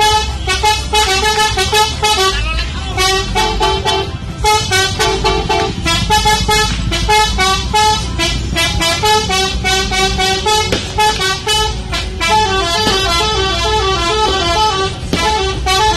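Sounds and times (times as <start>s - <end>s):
low rumble of vehicles: 0.0s - 15.9s
multi-note vehicle horn tune: 0.0s - 15.9s.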